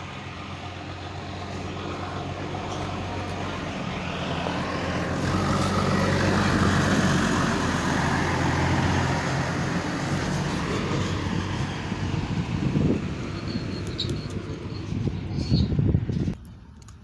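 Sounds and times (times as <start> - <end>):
diesel engine running: 0.0 - 16.4.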